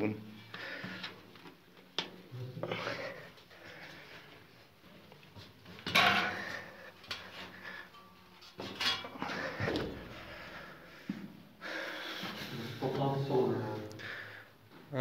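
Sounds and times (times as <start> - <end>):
people clambering through tunnel: 0.4 - 13.3.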